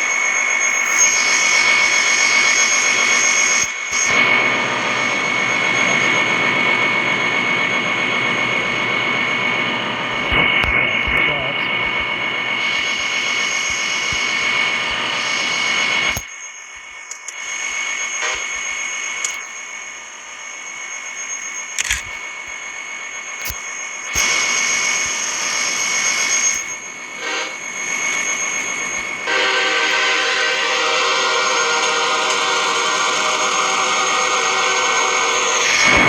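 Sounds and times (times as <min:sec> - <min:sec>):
diesel freight train running: 0:00.0 - 0:36.0.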